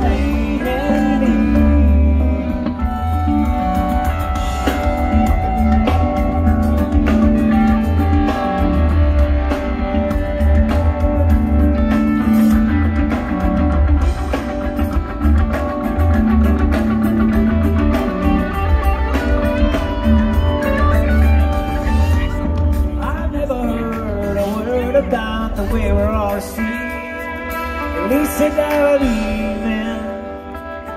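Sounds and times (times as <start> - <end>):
deep bass line: 0.0 - 26.8
live rock band: 0.0 - 30.9.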